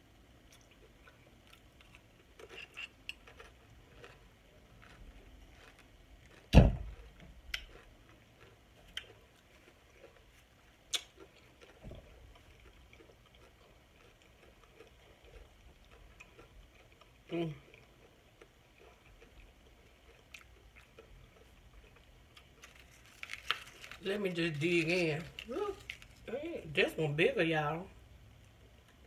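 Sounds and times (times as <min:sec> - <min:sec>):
person chewing with wet smacks: 0:00.4 - 0:23.8.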